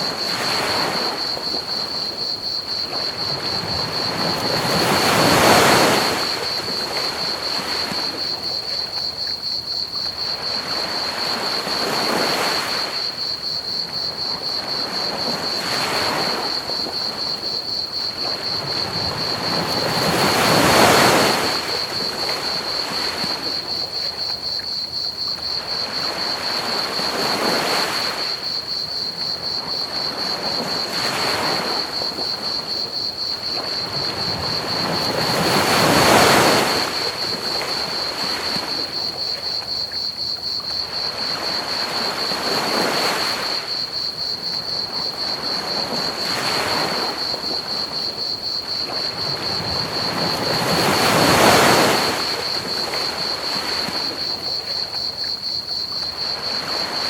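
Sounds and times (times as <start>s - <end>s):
crickets trilling: 0.0s - 57.0s
ocean waves washing onto beach: 0.0s - 57.0s.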